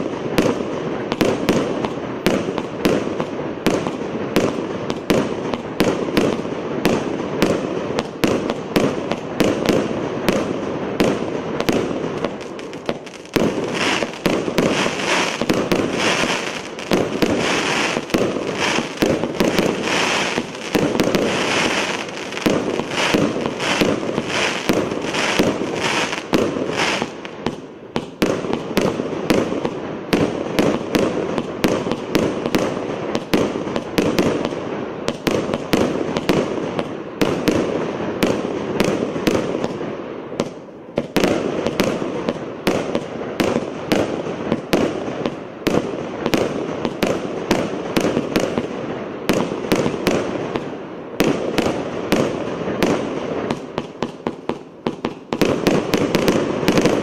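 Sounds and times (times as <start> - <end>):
fireworks launching and bursting: 0.0 - 57.0.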